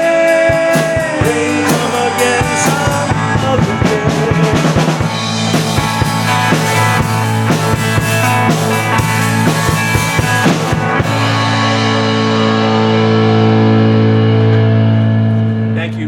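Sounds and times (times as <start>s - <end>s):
drum kit: 0.0s - 16.0s
rock band playing: 0.0s - 16.0s
guitar chord ringing: 1.1s - 16.0s.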